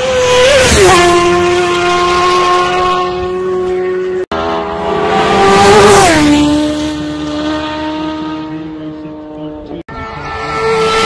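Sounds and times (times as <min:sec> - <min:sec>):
racing motorcycle passing by: 0:00.0 - 0:11.0.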